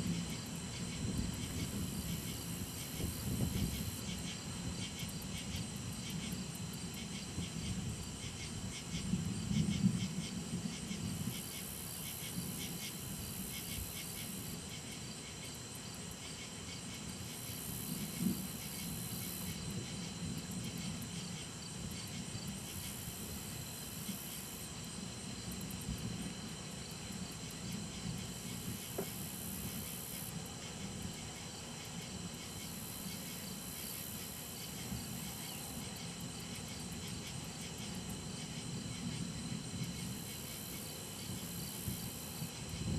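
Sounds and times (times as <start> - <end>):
crickets and insects chirring: 0.0 - 42.9
high insect buzz: 0.0 - 42.9.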